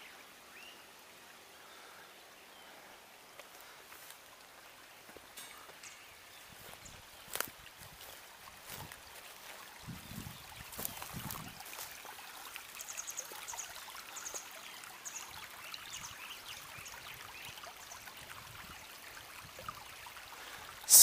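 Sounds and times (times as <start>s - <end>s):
water trickling in a channel: 3.2s - 21.0s.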